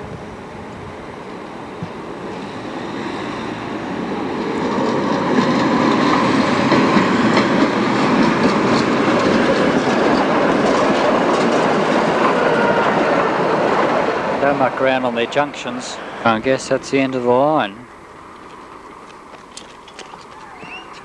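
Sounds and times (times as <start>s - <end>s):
electric tram rumbling: 0.0s - 21.0s
wheel clatter over rail joints: 2.6s - 21.0s.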